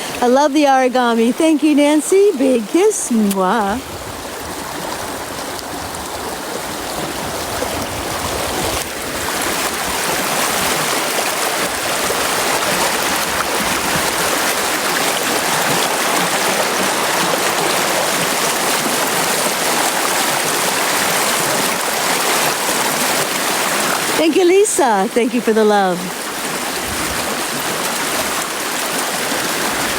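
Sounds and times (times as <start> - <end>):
brook running: 0.0 - 29.9.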